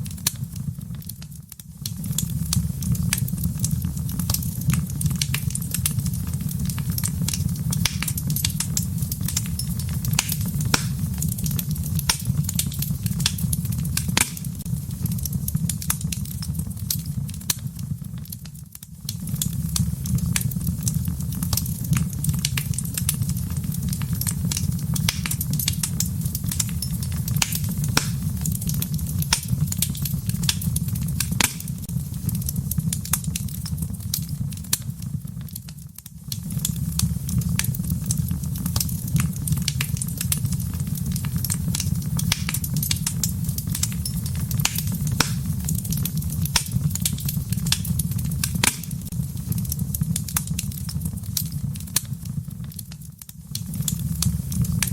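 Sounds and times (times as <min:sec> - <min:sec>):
low rumble of flames: 0:00.0 - 0:54.9
wood fire crackling and popping: 0:00.0 - 0:54.9.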